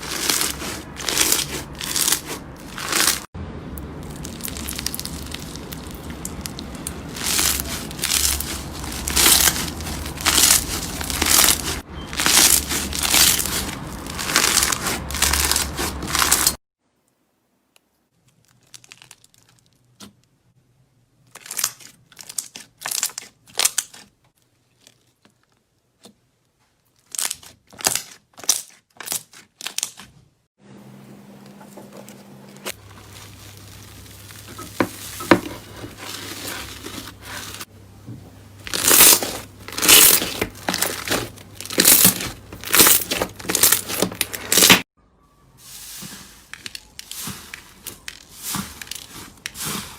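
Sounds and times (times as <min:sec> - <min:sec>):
slime squishing and crackling: 0:00.0 - 0:16.6, 0:18.2 - 0:20.2, 0:21.3 - 0:26.2, 0:26.9 - 0:30.2, 0:32.6 - 0:37.7, 0:38.6 - 0:44.9, 0:45.8 - 0:49.9.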